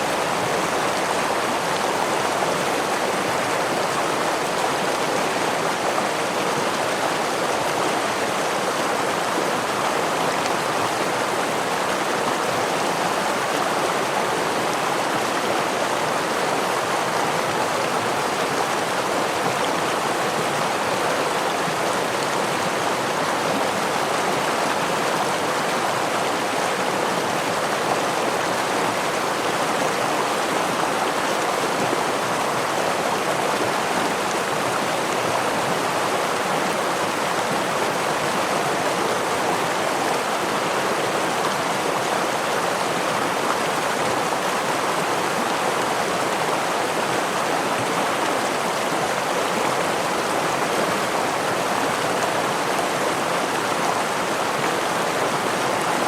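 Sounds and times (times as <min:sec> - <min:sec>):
stream over small waterfall: 0:00.0 - 0:56.0.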